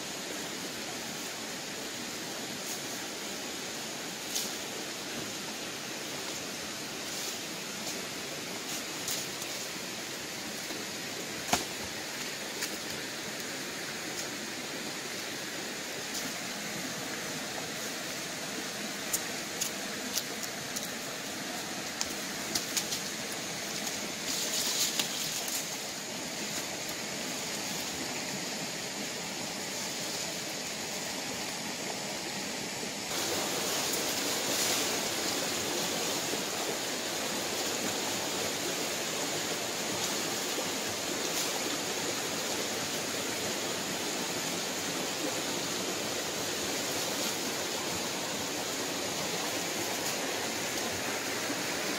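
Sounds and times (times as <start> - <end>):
stream water flowing: 0.0 - 51.9.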